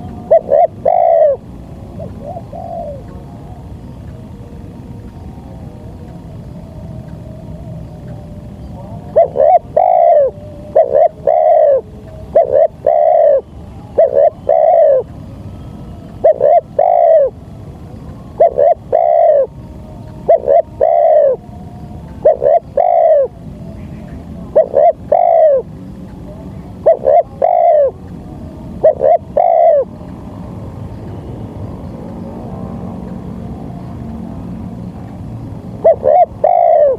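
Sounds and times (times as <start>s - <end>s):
dove cooing: 0.0s - 4.5s, 5.1s - 36.9s
low steady hum: 0.0s - 36.9s.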